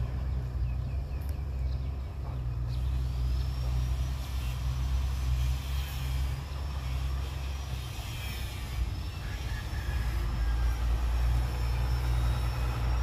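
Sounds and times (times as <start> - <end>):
diesel engines rumbling: 0.0 - 13.0
faint high whine: 0.0 - 13.0.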